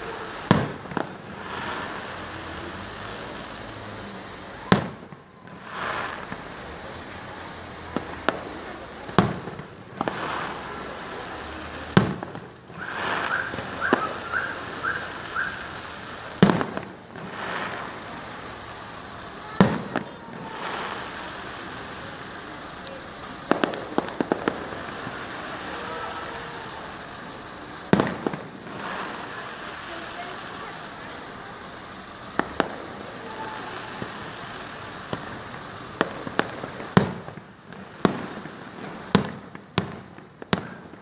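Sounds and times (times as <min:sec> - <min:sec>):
crackling pops: 0:00.0 - 0:41.0
fireworks bangs: 0:00.0 - 0:41.0
steady hiss: 0:00.0 - 0:41.0.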